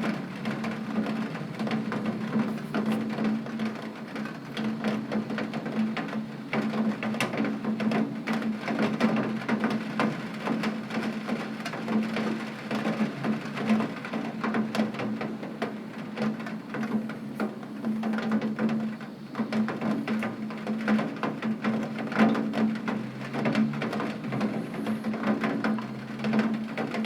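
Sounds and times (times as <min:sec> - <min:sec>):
rain on a tin roof: 0:00.0 - 0:27.0.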